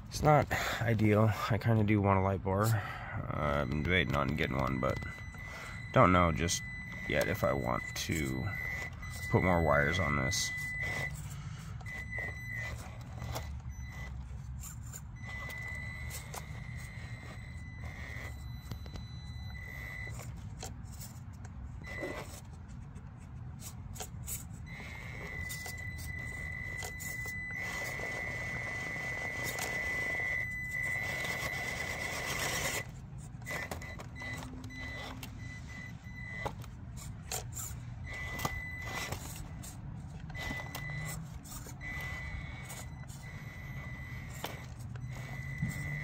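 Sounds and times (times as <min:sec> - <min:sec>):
toy car electric motor whining: 0:03.3 - 0:22.6, 0:23.6 - 0:46.0.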